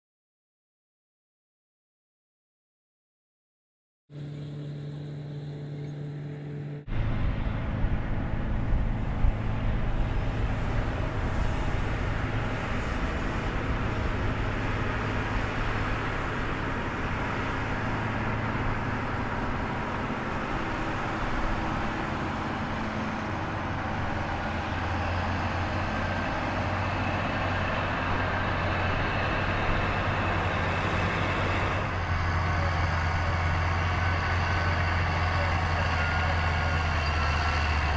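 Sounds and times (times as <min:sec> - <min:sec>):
construction machinery engines: 0:04.1 - 0:37.9.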